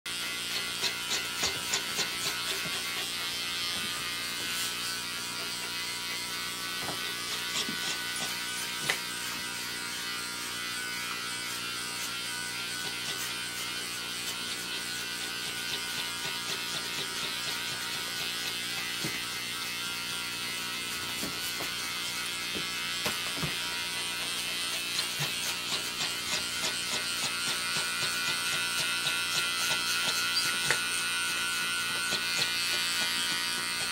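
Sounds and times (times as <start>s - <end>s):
clipper blade rasping through fur: 0.1s - 33.9s
electric pet clipper buzzing: 0.1s - 33.9s.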